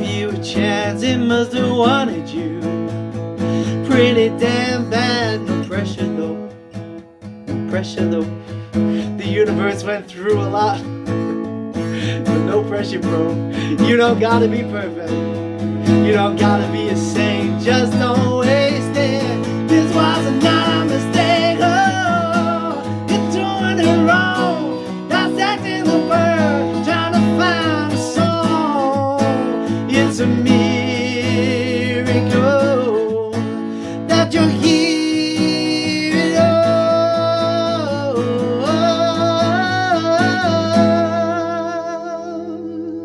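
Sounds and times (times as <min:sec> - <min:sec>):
acoustic guitar strumming: 0:00.0 - 0:43.0
wordless vocal melody: 0:07.5 - 0:43.0.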